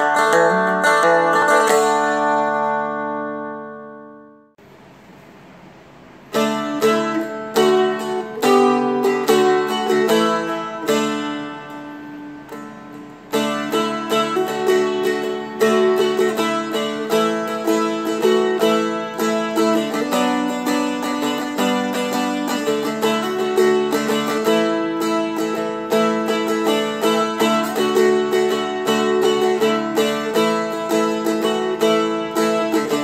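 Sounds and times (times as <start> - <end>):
plucked dulcimer melody: 0.0 - 4.4, 6.3 - 33.0.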